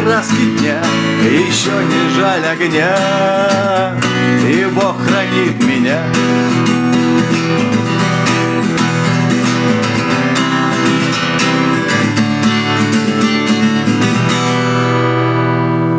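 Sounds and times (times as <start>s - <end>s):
guitar strummed in chords: 0.0s - 15.9s.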